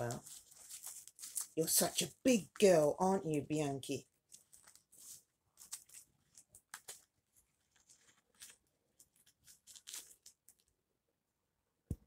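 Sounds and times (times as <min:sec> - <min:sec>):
plastic doll and clothes rustling: 0:00.0 - 0:10.8.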